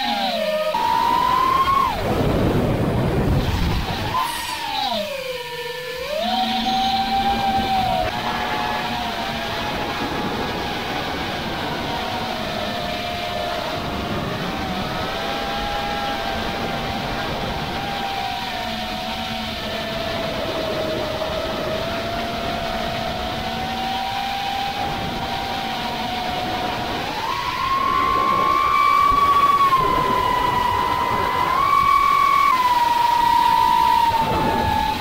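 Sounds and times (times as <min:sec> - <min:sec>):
rushing air: 0:00.0 - 0:22.2, 0:22.8 - 0:35.0
drone motors and propellers whining: 0:00.0 - 0:35.0
wind noise: 0:00.0 - 0:35.0.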